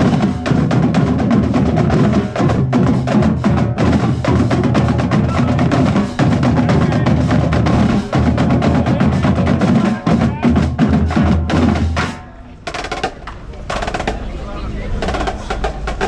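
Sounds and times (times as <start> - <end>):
marching band playing: 0.0 - 16.0
rapid drum strokes: 0.0 - 16.0.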